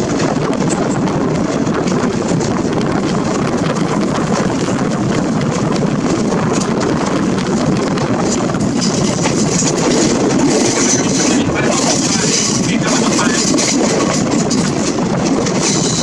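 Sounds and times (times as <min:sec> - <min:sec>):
train coaches running on track: 0:00.0 - 0:16.0
wind rushing over microphone: 0:00.0 - 0:16.0.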